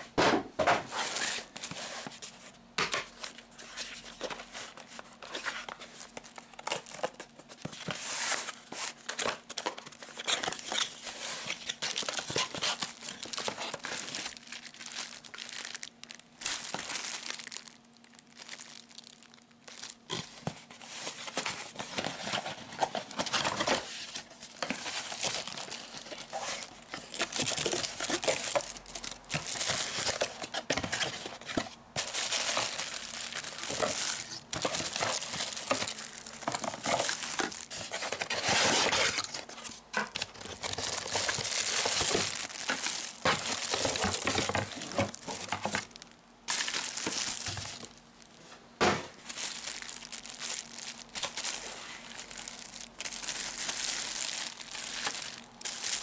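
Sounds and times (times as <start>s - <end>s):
cardboard and plastic crinkling: 0.6s - 56.0s.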